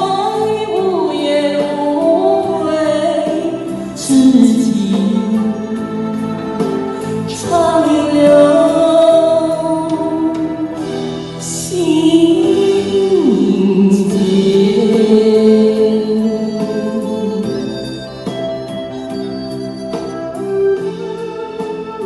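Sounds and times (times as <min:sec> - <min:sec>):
karaoke backing track: 0:00.0 - 0:22.0.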